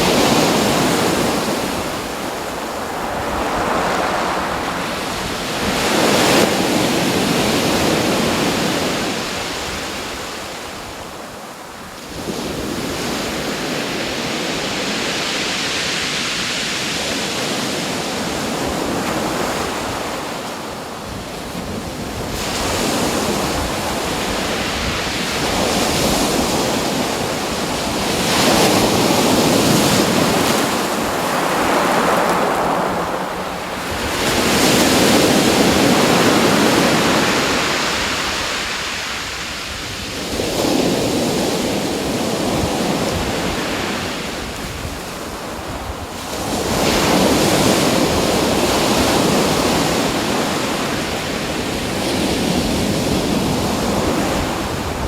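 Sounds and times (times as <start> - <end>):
ocean waves breaking: 0.0 - 10.9, 12.4 - 55.0.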